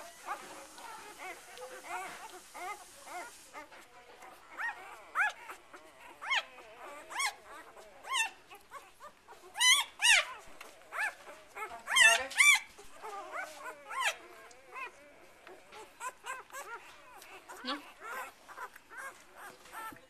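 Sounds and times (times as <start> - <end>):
puppies squeaking and whimpering: 0.0 - 20.0.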